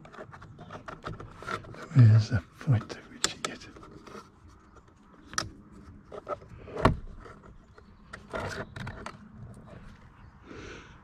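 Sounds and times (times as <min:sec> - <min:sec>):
plastic trim clicks and scrapes: 0:00.0 - 0:01.9, 0:02.7 - 0:09.6.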